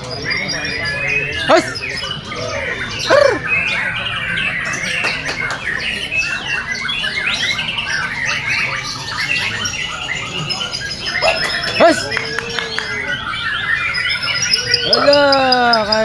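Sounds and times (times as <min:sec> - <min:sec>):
bird singing chirps and whistles: 0:00.0 - 0:16.0
bird squawk: 0:00.0 - 0:16.0.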